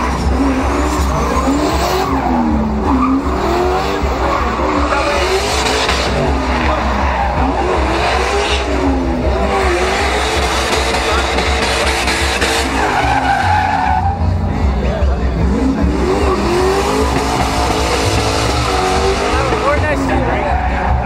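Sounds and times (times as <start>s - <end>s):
tires screeching on pavement: 0.0s - 21.0s
truck engine revving: 0.0s - 21.0s.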